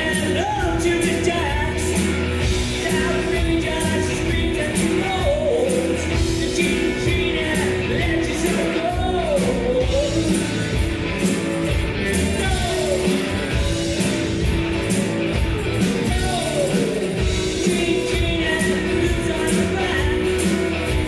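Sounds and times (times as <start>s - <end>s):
person singing: 0.0s - 10.8s, 12.1s - 14.1s, 15.8s - 21.0s
live rock band playing: 0.0s - 21.0s.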